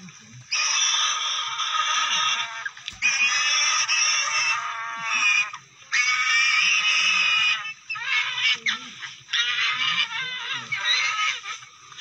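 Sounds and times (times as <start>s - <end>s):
animal squealing in distress: 0.5s - 11.7s.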